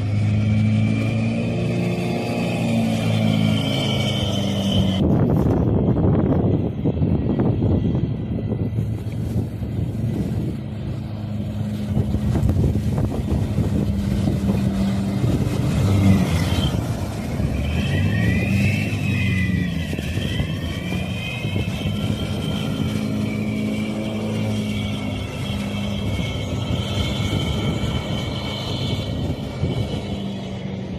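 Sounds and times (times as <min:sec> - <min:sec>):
boat engine running: 0:00.0 - 0:30.9
high whine: 0:00.0 - 0:30.9.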